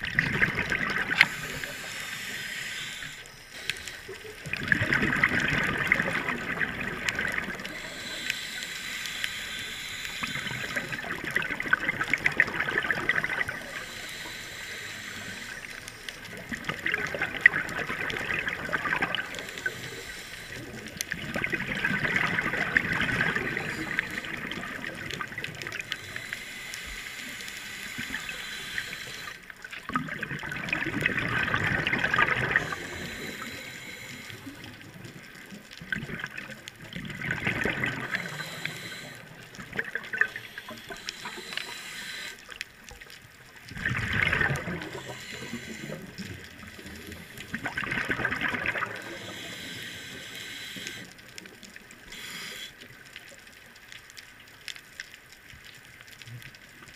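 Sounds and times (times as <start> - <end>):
exhaled bubbles underwater: 0.0 - 8.8, 9.4 - 53.6.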